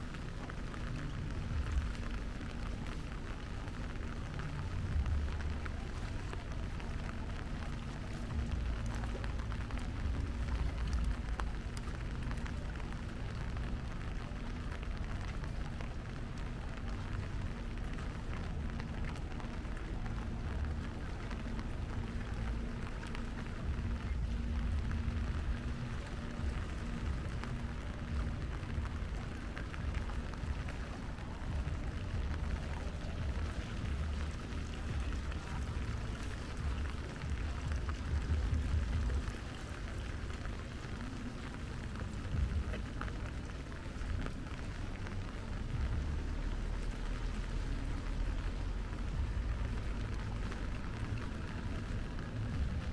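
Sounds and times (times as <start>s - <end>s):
rain pattering on hard surfaces: 0.0s - 52.9s
low rumble: 0.5s - 52.9s.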